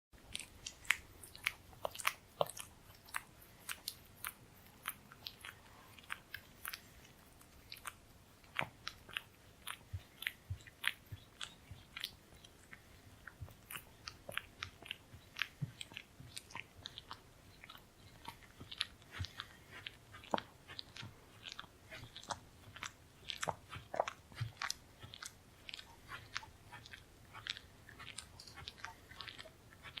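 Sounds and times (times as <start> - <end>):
dog licking: 0.3 - 30.0.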